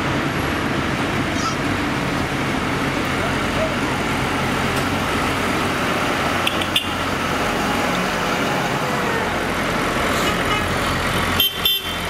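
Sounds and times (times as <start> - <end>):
tractor diesel engine passing: 0.0 - 12.0.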